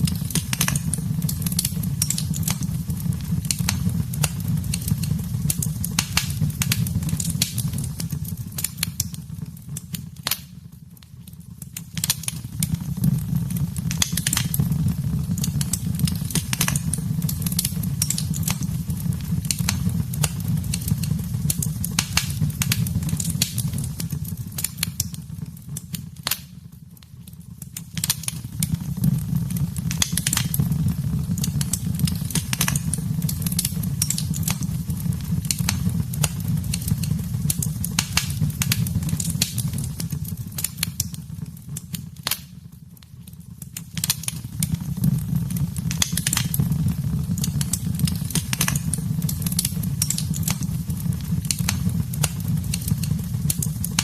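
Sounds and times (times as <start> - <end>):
low roar of flames: 0.0 - 10.1, 12.0 - 26.1, 28.0 - 42.4, 43.3 - 54.0
wood fire crackling and popping: 0.0 - 54.0.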